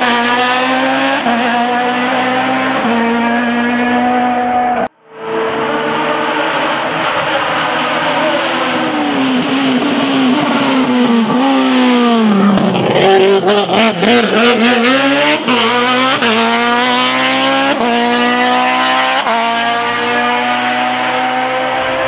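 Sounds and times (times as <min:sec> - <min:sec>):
race car engine downshifting: 0:00.0 - 0:22.0.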